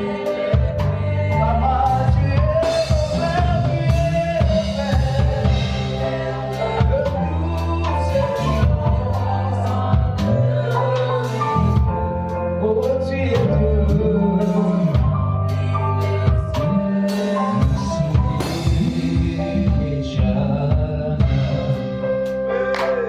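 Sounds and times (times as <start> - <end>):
bass guitar: 0.0 - 23.0
drum kit beat: 0.0 - 23.0
keyboards: 0.0 - 23.0
person singing: 0.0 - 23.0.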